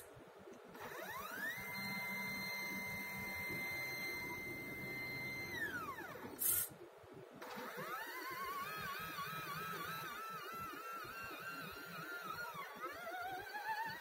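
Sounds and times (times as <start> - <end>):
stepper motor whine: 0.8 - 6.6, 7.4 - 14.0.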